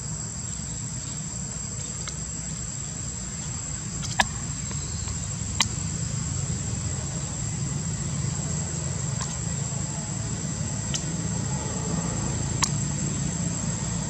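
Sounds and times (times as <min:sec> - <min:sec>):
insects droning: 0:00.0 - 0:14.0
low outdoor rumble: 0:00.0 - 0:14.0.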